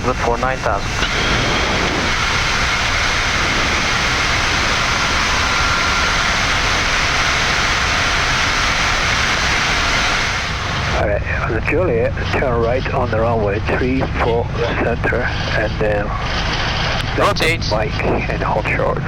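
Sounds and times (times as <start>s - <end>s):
airflow and jet engine noise: 0.0s - 19.0s
faint steady tones: 0.0s - 19.0s.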